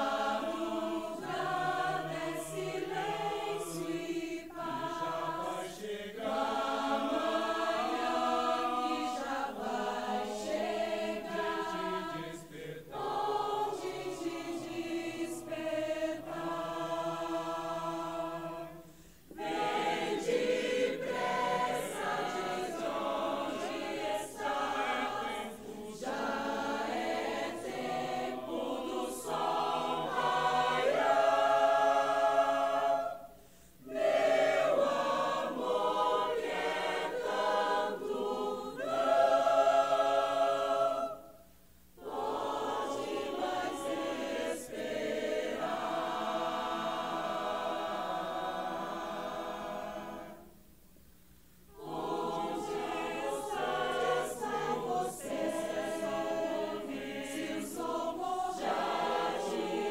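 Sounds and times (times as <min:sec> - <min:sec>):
choir singing: 0:00.0 - 0:50.6, 0:51.7 - 0:59.9.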